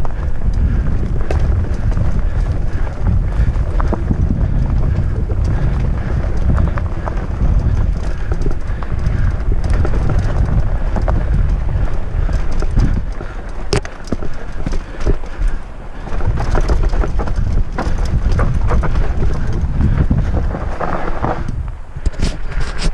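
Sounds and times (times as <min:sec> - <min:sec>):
bike knocks and rattles: 0:00.0 - 0:22.9
fat tyres rumbling on dirt: 0:00.0 - 0:22.9
wind buffeting microphone: 0:00.0 - 0:22.9.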